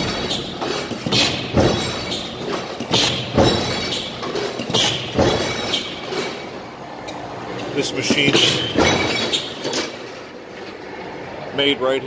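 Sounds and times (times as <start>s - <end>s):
metal shear clunking: 0.0s - 10.4s.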